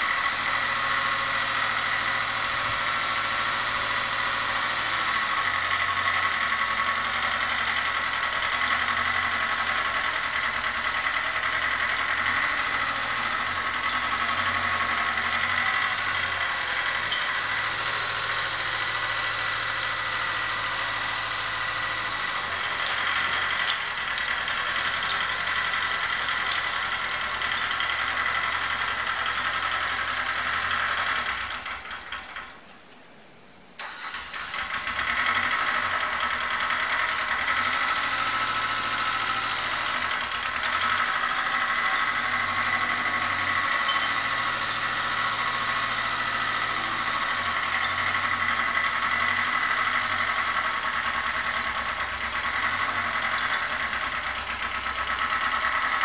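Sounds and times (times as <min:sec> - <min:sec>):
tractor engine running: 0:00.0 - 0:32.8, 0:33.8 - 0:56.0.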